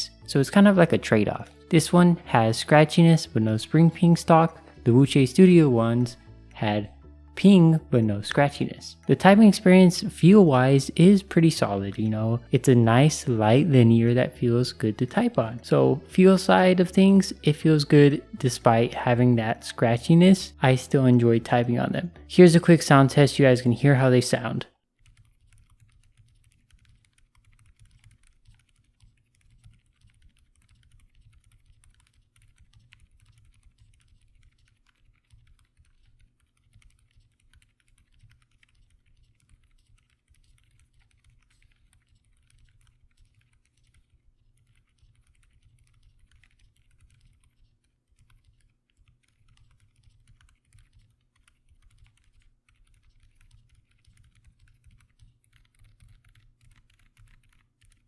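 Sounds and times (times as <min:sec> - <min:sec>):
soft muted keyboard typing: 0:00.0 - 0:58.0.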